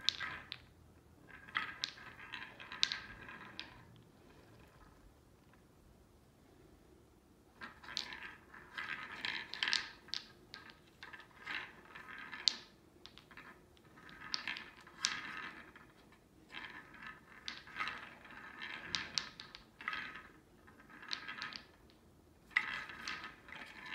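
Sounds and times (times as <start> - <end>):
wooden balls rolling and clacking: 0.0 - 5.9, 7.4 - 23.9.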